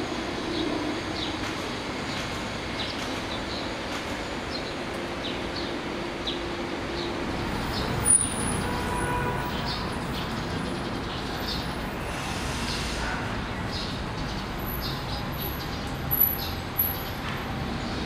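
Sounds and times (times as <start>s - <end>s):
urban background rumble: 0.0s - 18.0s.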